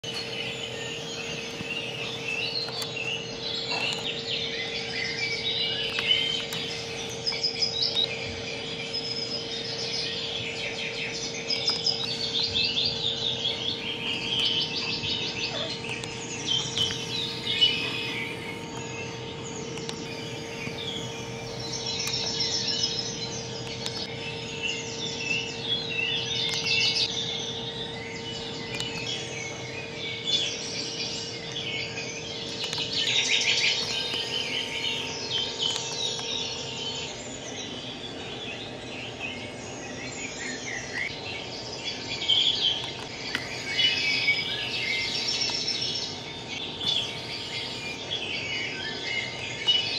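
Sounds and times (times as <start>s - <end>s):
small birds chirping: 0.0s - 49.9s
steady low hum: 0.0s - 49.9s.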